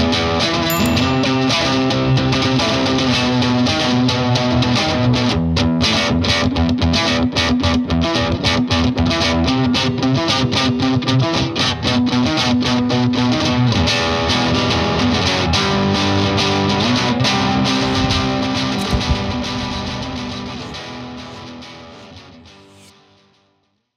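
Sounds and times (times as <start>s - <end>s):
overdriven electric guitar chords: 0.7s - 22.6s.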